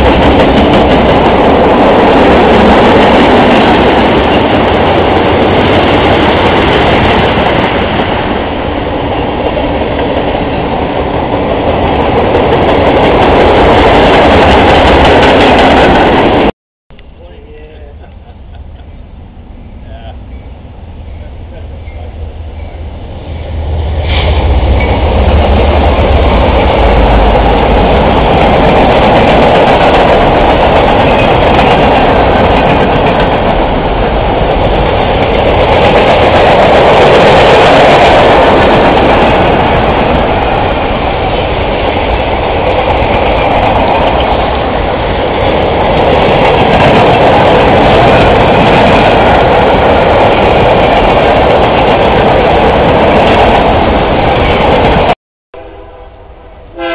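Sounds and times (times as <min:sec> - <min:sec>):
steel wheels rushing on rail: 0:00.0 - 0:16.5, 0:17.2 - 0:56.9
diesel locomotive engine: 0:00.0 - 0:56.9.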